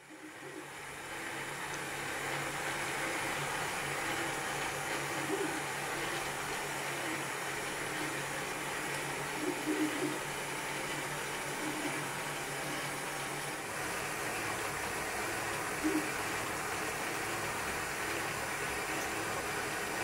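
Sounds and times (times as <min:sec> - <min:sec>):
model engine whirring: 0:00.0 - 0:20.0.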